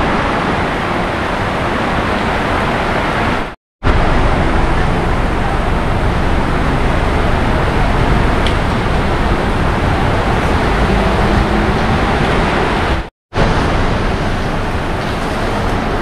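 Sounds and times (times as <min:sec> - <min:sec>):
deep rumble: 0:00.0 - 0:16.0
heavy rain rushing: 0:00.0 - 0:16.0.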